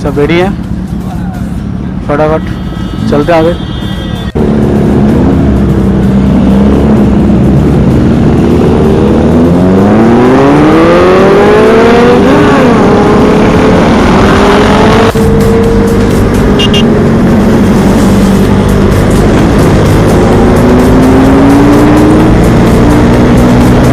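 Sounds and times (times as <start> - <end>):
motorcycle engine accelerating: 4.4 - 23.9.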